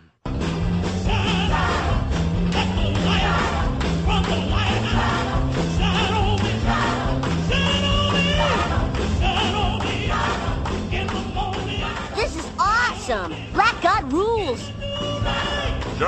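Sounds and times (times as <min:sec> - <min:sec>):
choir singing gospel music: 0:00.5 - 0:16.0
walking bass line and beat: 0:00.6 - 0:16.0.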